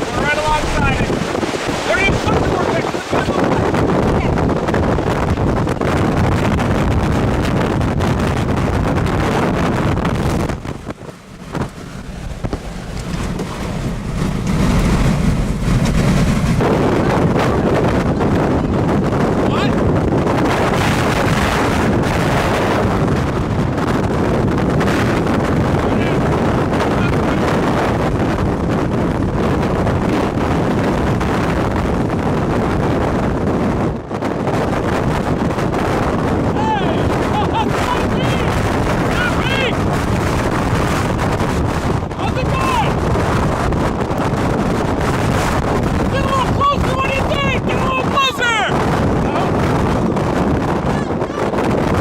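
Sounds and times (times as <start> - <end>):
strong wind buffeting microphone: 0.0 - 52.0.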